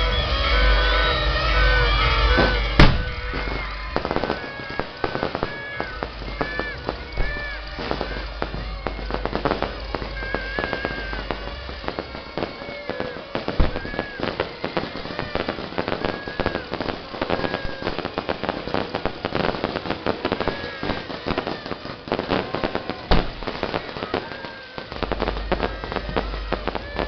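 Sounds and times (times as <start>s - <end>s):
firecrackers crackling: 0.0s - 27.0s
firework whistles: 0.0s - 27.0s
loud firework bang: 0.0s - 27.0s.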